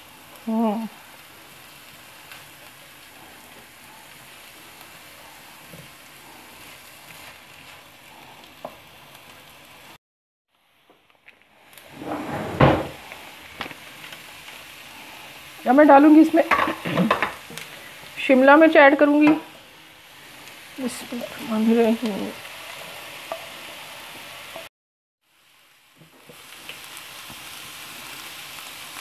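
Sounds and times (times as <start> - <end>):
spatula stirring frying onions: 0.0 - 10.0, 13.0 - 24.7, 25.3 - 29.0
onions sizzling in hot oil: 0.0 - 12.0, 12.9 - 29.0.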